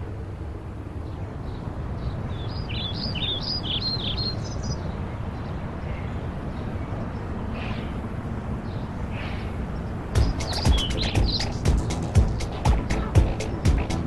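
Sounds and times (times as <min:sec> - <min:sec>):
low outdoor rumble: 0:00.0 - 0:14.0
songbird chirping: 0:01.0 - 0:14.0.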